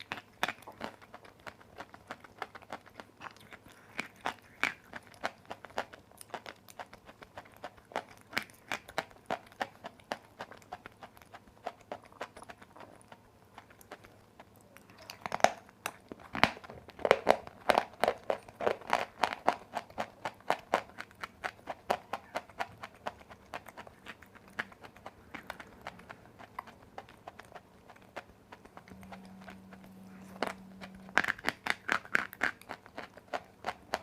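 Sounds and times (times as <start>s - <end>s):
chalk crunching when chewed: 0.0s - 34.0s.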